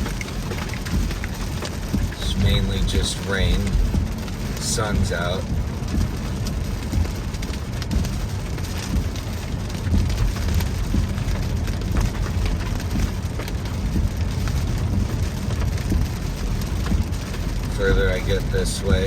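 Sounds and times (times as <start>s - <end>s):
rain drops ticking on truck: 0.0s - 19.0s
road and engine rumble: 0.0s - 19.0s.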